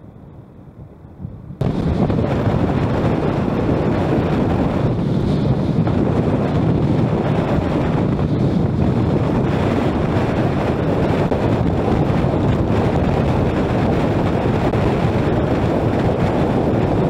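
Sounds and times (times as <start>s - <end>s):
road rumble: 0.0s - 17.0s
wind rushing over microphone: 0.0s - 17.0s.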